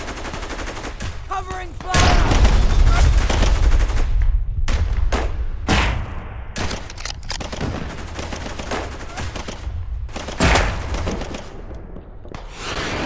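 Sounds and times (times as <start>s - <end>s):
rifle and machine-gun fire: 0.0s - 13.0s.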